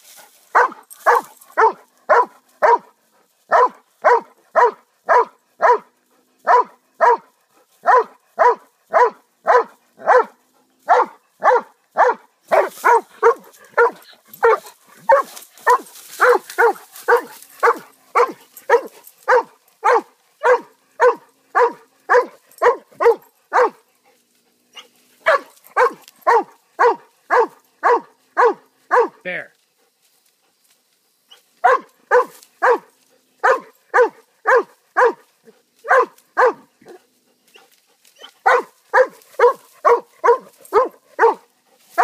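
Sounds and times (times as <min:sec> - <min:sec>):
dog barking: 0:00.5 - 0:23.9, 0:24.7 - 0:29.2, 0:31.6 - 0:37.0, 0:38.2 - 0:42.0.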